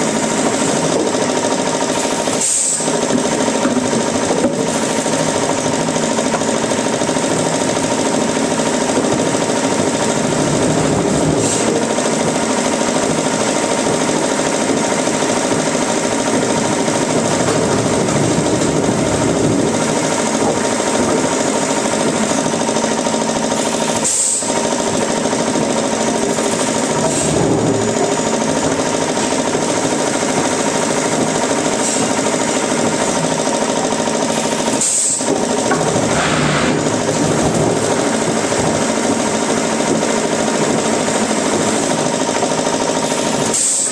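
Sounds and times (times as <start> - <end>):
wood-processing machinery running: 0.0 - 43.9.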